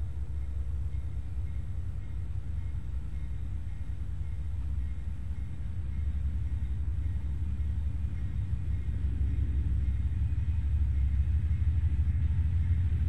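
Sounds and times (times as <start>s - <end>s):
standing train rumble: 0.0s - 13.0s.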